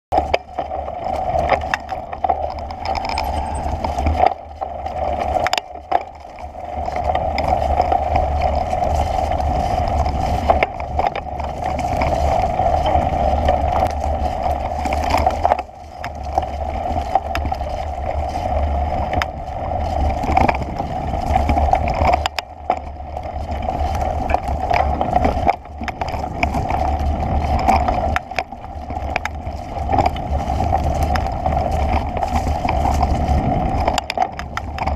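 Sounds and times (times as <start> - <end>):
bike rolling on dirt trail: 0.1 - 34.9.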